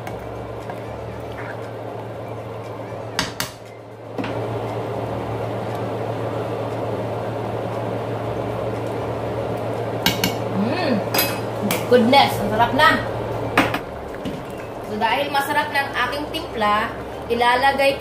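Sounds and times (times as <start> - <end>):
pot bubbling on a simmer: 0.0 - 18.0.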